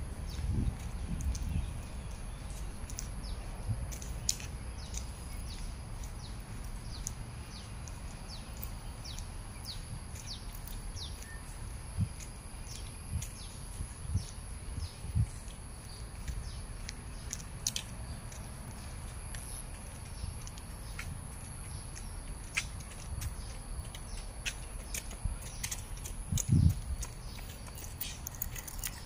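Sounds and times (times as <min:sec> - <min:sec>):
birds chirping: 0:00.0 - 0:29.0
steady low rumble: 0:00.0 - 0:29.0.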